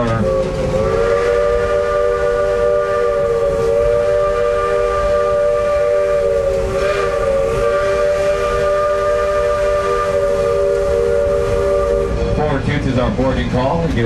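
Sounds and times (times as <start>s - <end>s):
steam locomotive whistle: 0.0s - 12.8s
steam hissing: 0.0s - 14.0s.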